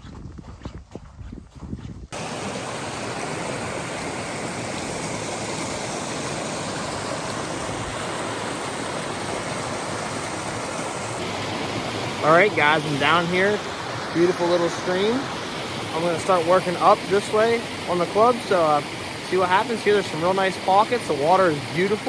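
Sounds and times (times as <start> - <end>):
stream rushing over rocks: 2.2 - 22.0.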